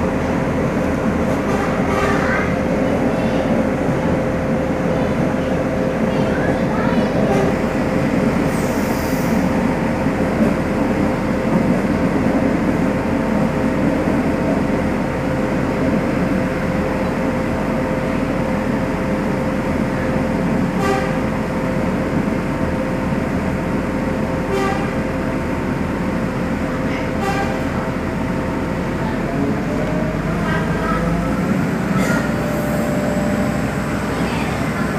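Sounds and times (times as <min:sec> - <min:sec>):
train rumbling with hum: 0:00.0 - 0:34.9.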